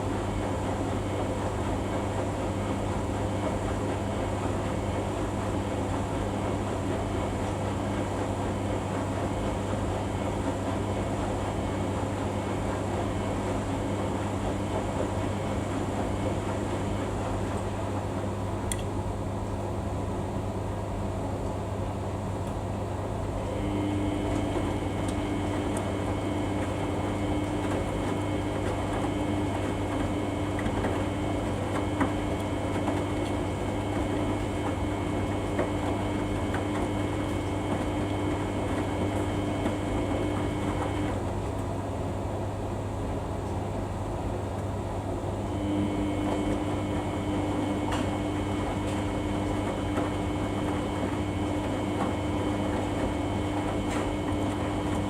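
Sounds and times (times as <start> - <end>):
washing machine drum humming: 0.0 - 55.0.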